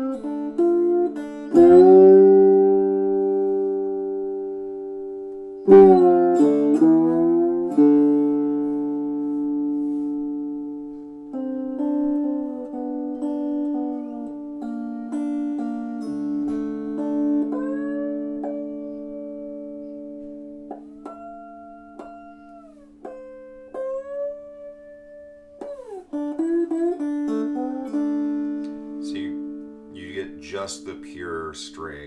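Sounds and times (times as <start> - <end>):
slide guitar through amp: 0.0 - 32.0.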